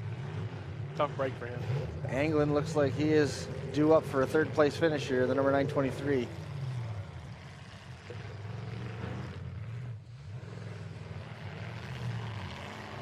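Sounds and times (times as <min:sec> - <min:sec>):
truck engines revving unevenly: 0:00.0 - 0:13.0.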